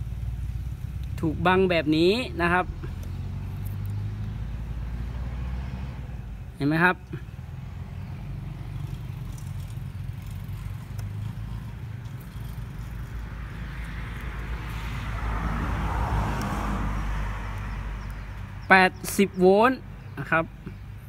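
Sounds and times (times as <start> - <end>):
motor vehicle rumbling past: 0.0 - 20.1.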